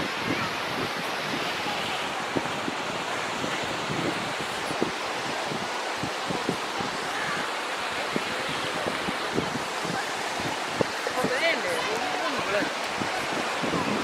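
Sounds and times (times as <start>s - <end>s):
surf washing on shore: 0.0s - 14.0s
wind on microphone: 0.0s - 14.0s.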